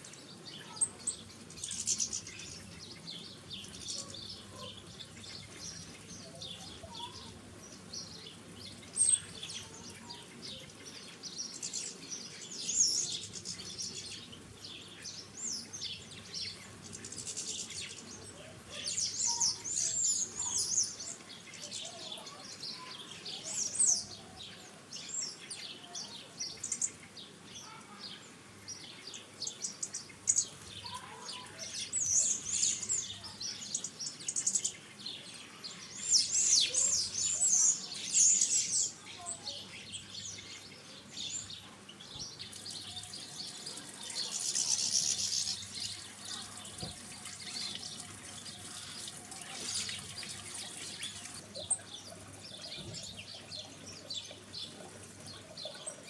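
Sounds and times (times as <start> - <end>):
small birds twittering: 0.0 - 56.0.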